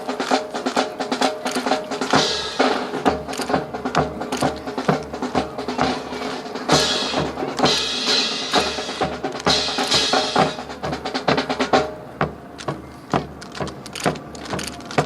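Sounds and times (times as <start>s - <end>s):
drum-led music: 0.0s - 15.0s.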